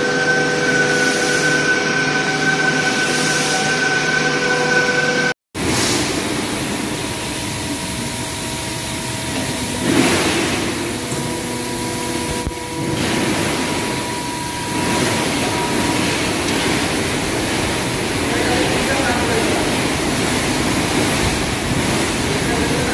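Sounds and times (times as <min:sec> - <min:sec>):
factory machine rushing hum: 0:00.0 - 0:22.9.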